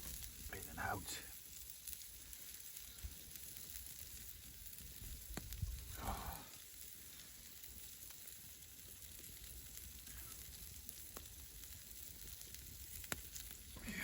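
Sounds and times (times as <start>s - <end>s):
faint fire crackles: 0.0s - 14.0s
meat sizzling over campfire: 0.0s - 14.0s.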